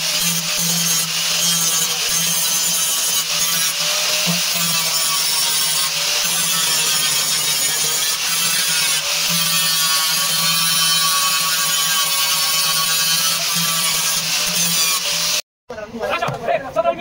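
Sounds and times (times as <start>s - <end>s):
angle grinder cutting metal: 0.0s - 15.4s.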